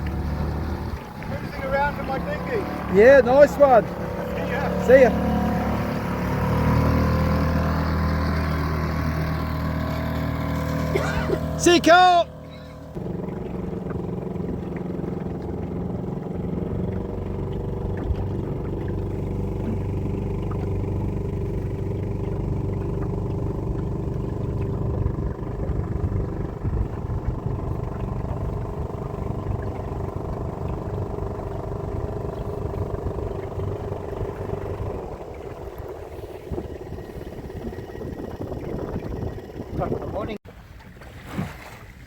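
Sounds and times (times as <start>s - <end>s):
boat engine running: 0.0s - 41.3s.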